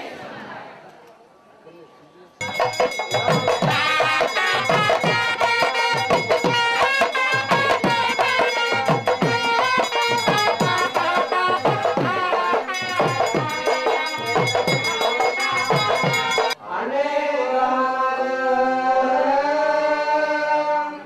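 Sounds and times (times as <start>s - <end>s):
voices chanting long notes: 2.4s - 21.0s.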